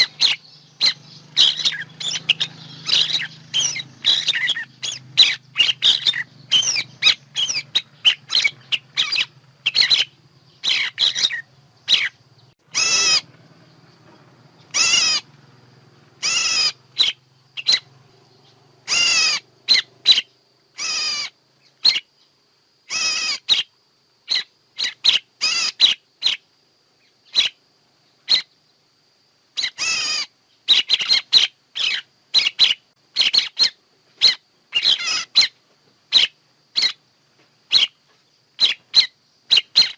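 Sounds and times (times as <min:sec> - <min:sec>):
rippling bird chirps and squawks: 0:00.0 - 0:13.4, 0:14.6 - 0:15.3, 0:16.2 - 0:22.1, 0:22.9 - 0:23.7, 0:24.3 - 0:26.4, 0:27.2 - 0:27.6, 0:28.2 - 0:28.5, 0:29.6 - 0:37.0, 0:37.7 - 0:39.9
faint low hum: 0:00.0 - 0:39.9.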